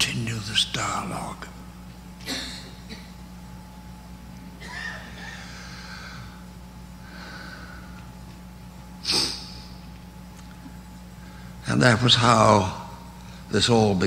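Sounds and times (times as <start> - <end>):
low hum from sound system: 0.0 - 14.0.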